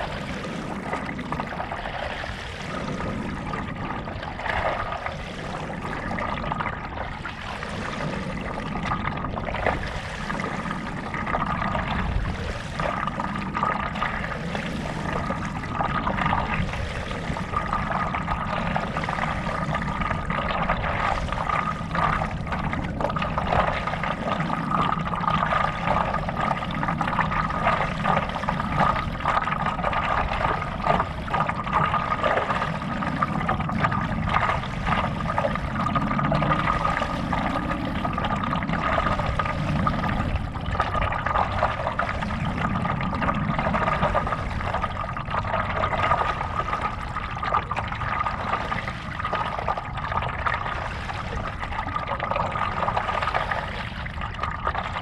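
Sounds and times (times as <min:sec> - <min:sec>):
water sloshing and trickling: 0:00.0 - 0:55.0.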